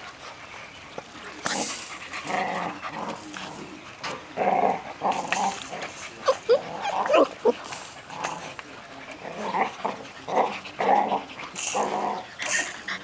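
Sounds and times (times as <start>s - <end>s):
puppies growling and yipping: 1.4s - 13.0s.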